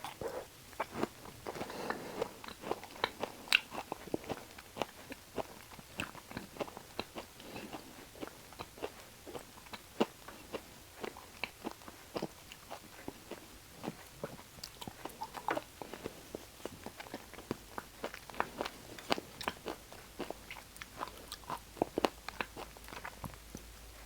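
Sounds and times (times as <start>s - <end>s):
person chewing: 0.0s - 23.8s.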